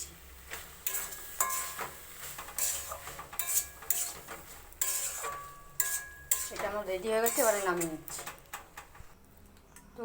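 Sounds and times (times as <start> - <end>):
spoon scraping a cooking pan: 0.4 - 9.2.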